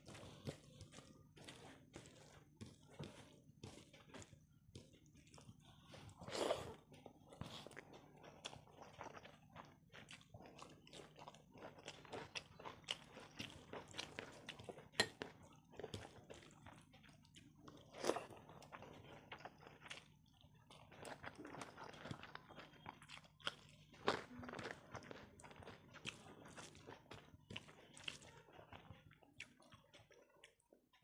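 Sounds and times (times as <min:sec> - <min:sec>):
person chewing and smacking: 0:00.0 - 0:31.0.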